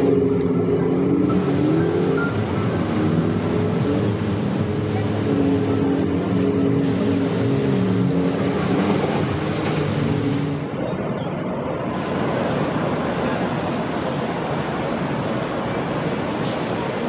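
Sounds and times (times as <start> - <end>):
jet ski engines revving: 0.0 - 17.0
wind: 0.0 - 17.0.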